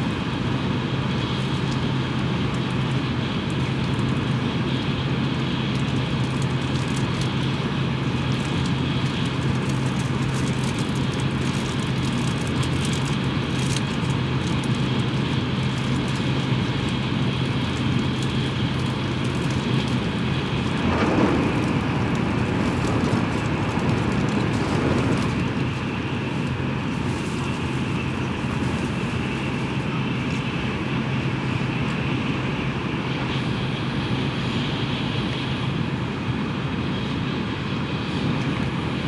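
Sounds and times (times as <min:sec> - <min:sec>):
train running noise at speed: 0:00.0 - 0:39.0.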